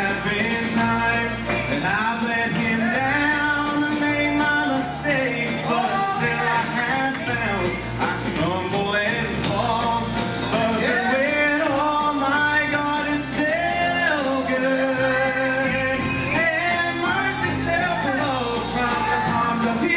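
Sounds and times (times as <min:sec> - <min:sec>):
electric bass: 0:00.0 - 0:19.9
man and woman singing: 0:00.0 - 0:19.9
strummed acoustic guitar: 0:00.0 - 0:19.9.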